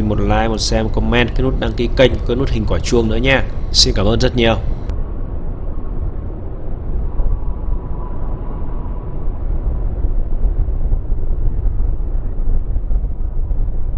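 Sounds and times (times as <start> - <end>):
distant jet airliner rumble: 0.0 - 13.9
faint thin jet whine: 0.0 - 13.9
wind buffeting microphone: 0.0 - 13.9.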